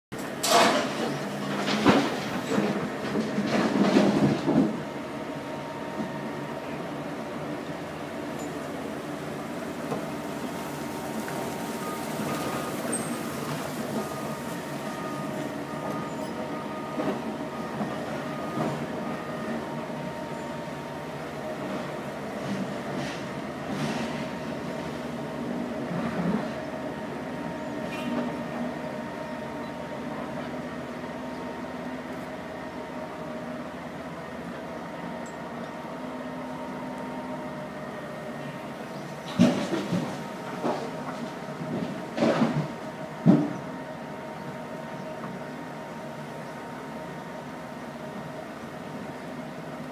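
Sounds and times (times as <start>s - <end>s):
heavy vehicle engines rumbling: 0.1s - 49.9s.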